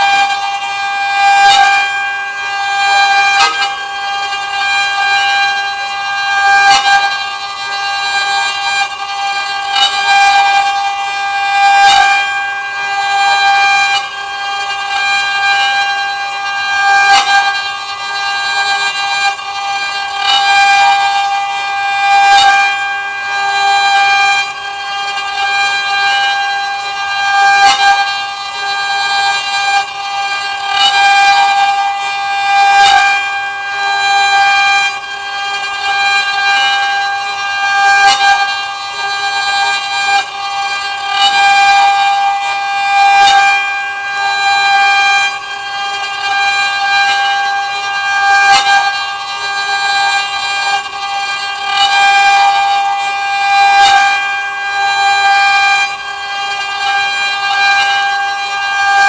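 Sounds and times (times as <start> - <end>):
router spindle whining cutting wood: 0.0 - 59.0.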